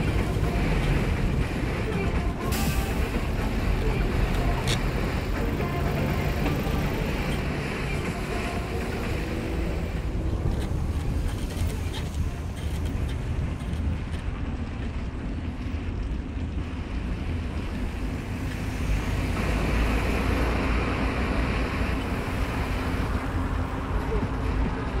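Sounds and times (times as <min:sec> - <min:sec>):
car cabin engine and tyre rumble: 0:00.0 - 0:25.0.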